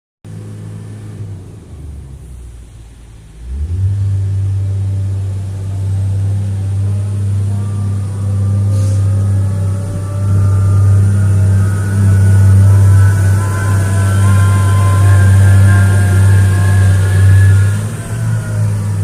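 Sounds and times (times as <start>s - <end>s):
diesel engine revving: 0.2s - 19.0s
faint rising whine: 0.3s - 19.0s.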